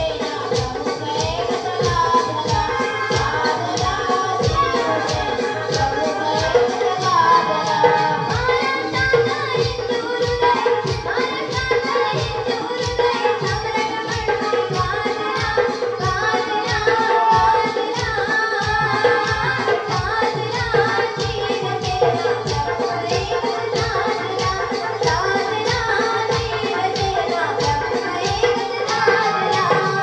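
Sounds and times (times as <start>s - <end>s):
hand drum beat: 0.0s - 30.0s
women singing into microphones: 0.0s - 30.0s.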